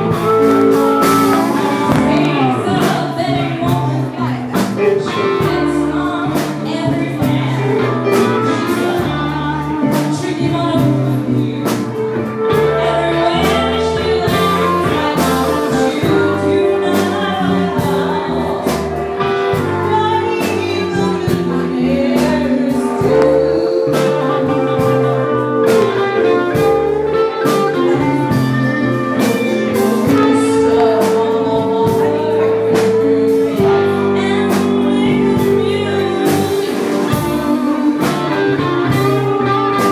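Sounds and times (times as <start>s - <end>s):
electric guitar: 0.0s - 39.9s
keyboard: 0.0s - 39.9s
live blues band: 0.0s - 39.9s
woman singing: 0.0s - 39.9s.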